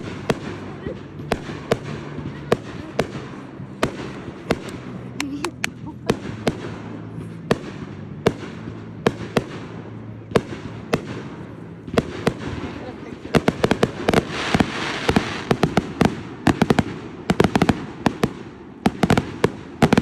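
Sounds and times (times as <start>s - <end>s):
fireworks bangs: 0.0s - 20.0s
fireworks popping: 0.0s - 20.0s.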